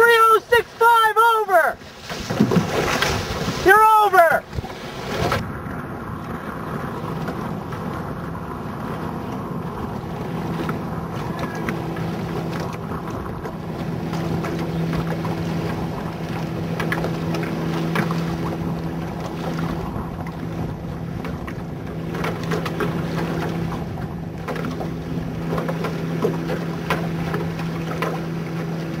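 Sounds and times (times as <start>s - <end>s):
water rushing past boat: 0.0s - 29.0s
wind buffeting microphone: 4.4s - 29.0s.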